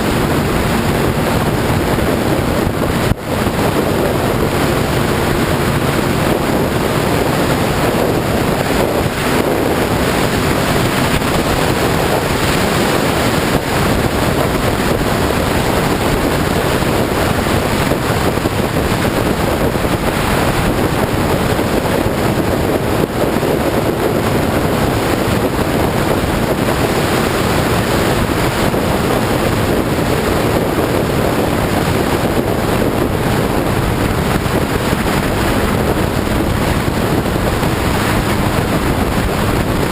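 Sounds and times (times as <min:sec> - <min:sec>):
loud wind rush over microphone: 0:00.0 - 0:39.9
motorcycle engine running: 0:00.0 - 0:39.9.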